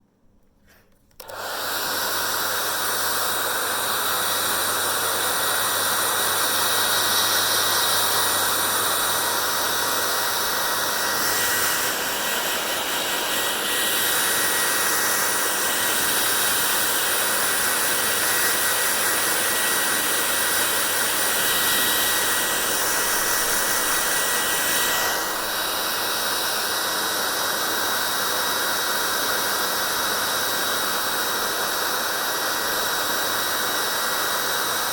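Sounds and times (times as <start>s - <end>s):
hair dryer blowing: 0.7s - 34.9s
hair dryer motor whine: 1.1s - 34.9s.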